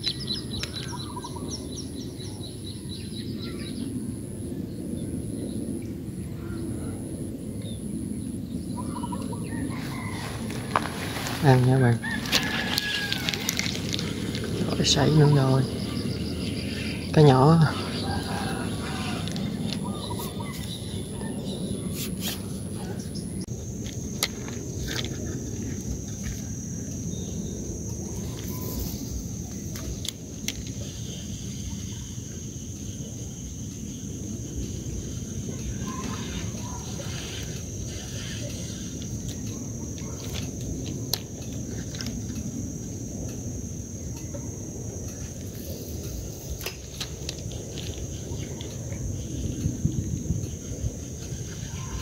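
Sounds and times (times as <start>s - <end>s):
insects buzzing: 0.0s - 52.0s.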